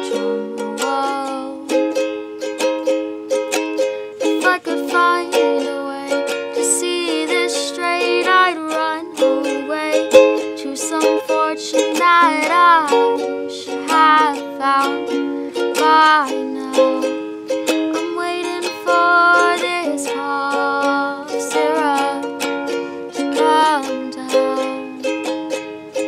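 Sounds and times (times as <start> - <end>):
young woman singing: 0.0 - 2.1, 3.8 - 26.0
ukulele strumming: 0.0 - 26.0.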